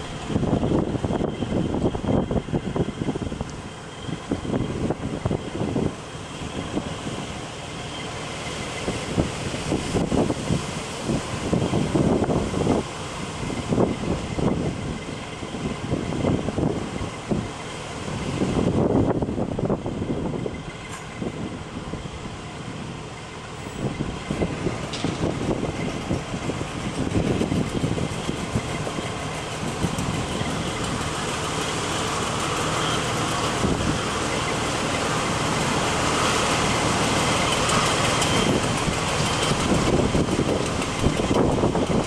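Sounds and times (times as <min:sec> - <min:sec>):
fire truck diesel engine running: 0:00.0 - 0:42.0
low rumbles: 0:00.0 - 0:42.0.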